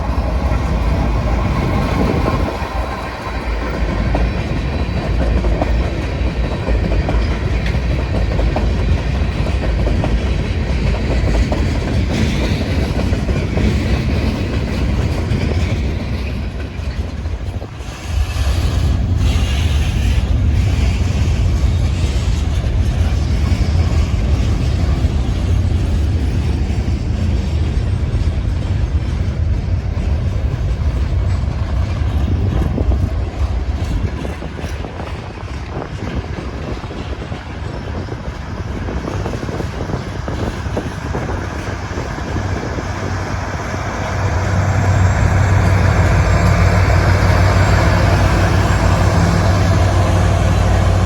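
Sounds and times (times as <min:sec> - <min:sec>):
train rumbling on rails: 0:00.0 - 0:51.0.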